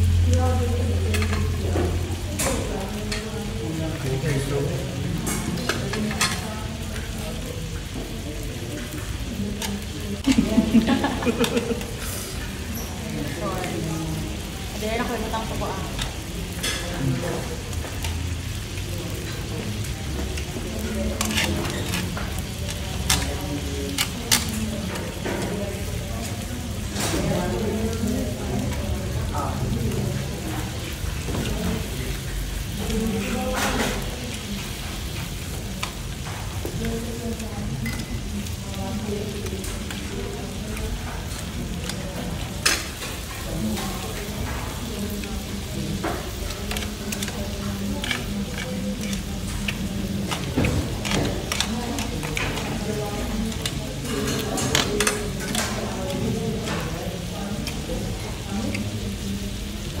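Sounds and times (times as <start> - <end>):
meat sizzling on grill pan: 0.0 - 60.0
utensils clicking against pan: 0.1 - 3.6, 5.2 - 7.2, 8.8 - 28.0, 29.9 - 59.9.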